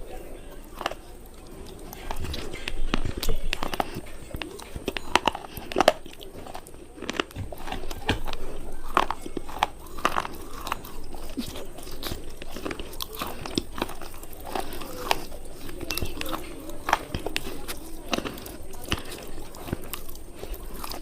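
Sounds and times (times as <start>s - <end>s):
crunching hard cubes: 0.0s - 21.0s
quiet chewing: 0.0s - 21.0s.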